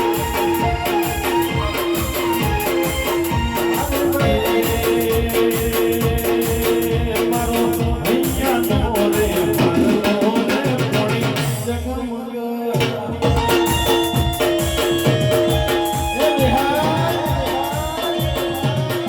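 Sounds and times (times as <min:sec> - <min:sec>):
steady drum beat: 0:00.0 - 0:19.0.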